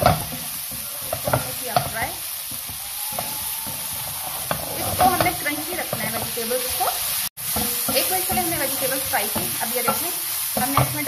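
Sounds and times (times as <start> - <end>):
food sizzling in a wok: 0.0 - 11.0
wooden spatula scraping a pan: 0.0 - 11.0.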